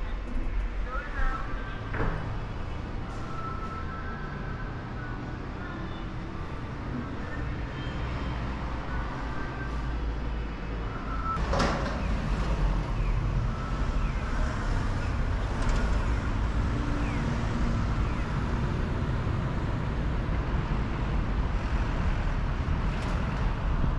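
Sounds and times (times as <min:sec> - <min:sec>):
traffic rumble: 0:00.0 - 0:23.9.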